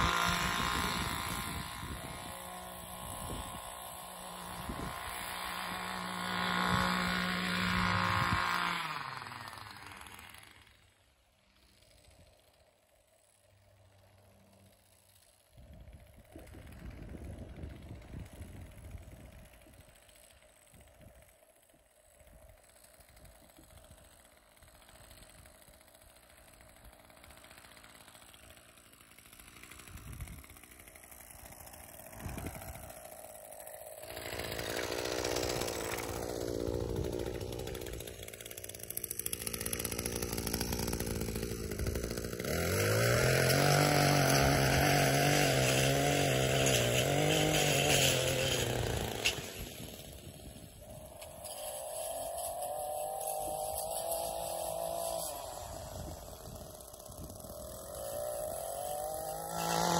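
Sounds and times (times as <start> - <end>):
string trimmer engine: 0.0 - 59.9.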